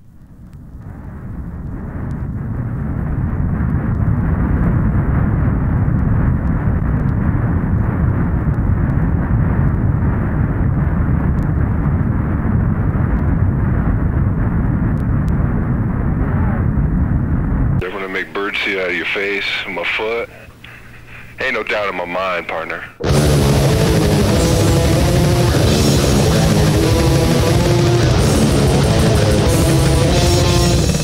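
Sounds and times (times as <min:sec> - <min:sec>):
low rumbling roar: 0:00.5 - 0:17.8, 0:23.0 - 0:31.0.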